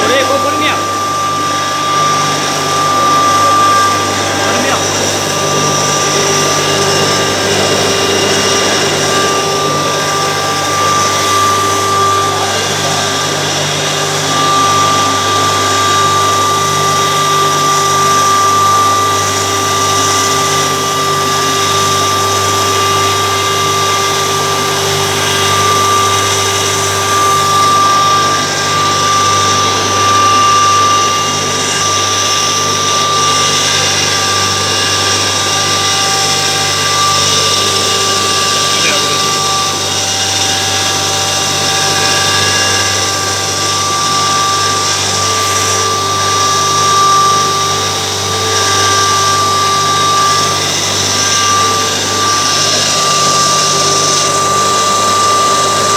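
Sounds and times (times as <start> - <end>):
pulverizer whining: 0.0 - 55.9.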